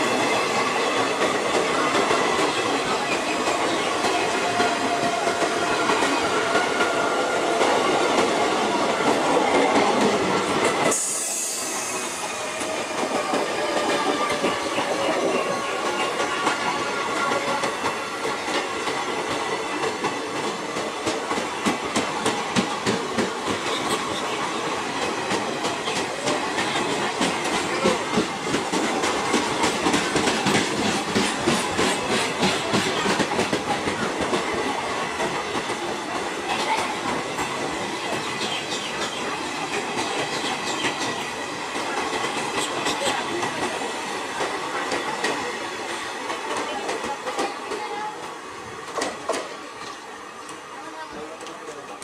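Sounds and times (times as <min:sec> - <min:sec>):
train wheels clattering over rail joints: 0:00.0 - 0:50.0.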